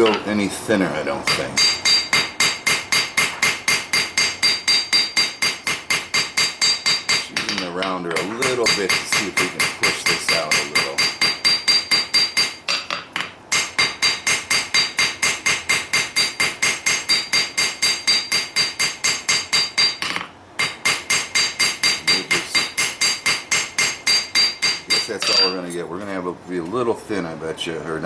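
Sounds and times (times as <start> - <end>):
hammer striking steel on anvil: 1.3 - 25.6.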